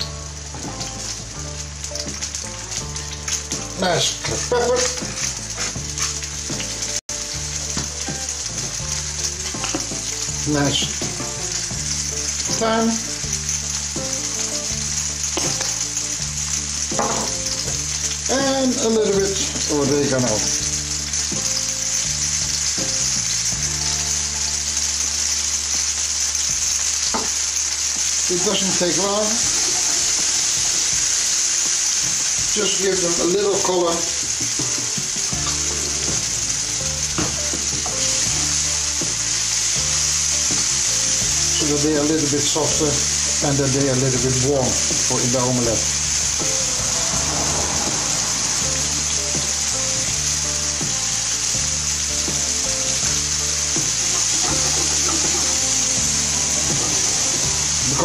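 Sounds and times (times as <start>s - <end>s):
vegetables sizzling in frying pan: 0.0s - 58.0s.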